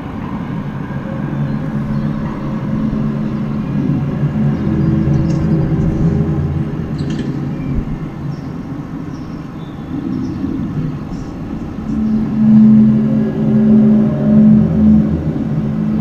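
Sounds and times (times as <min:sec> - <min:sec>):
deep groaning low drone: 0:00.0 - 0:16.0
loud pulsing steady tone: 0:00.0 - 0:16.0.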